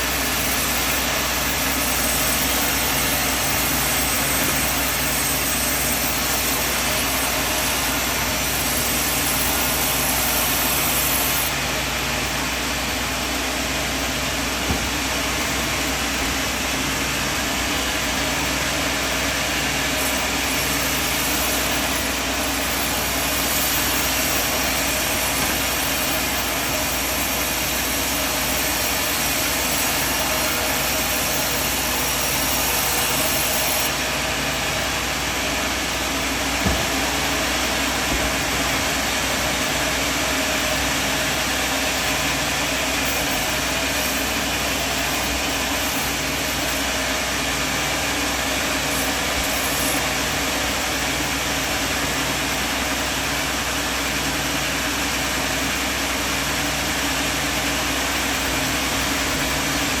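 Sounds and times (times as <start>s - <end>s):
sawmill machinery drone: 0.0s - 60.0s.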